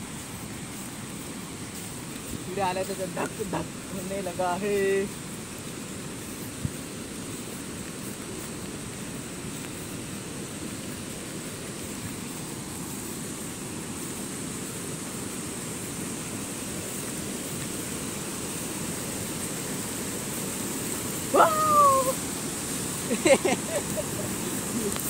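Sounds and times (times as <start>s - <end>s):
distant waterfall roar: 0.0s - 25.0s.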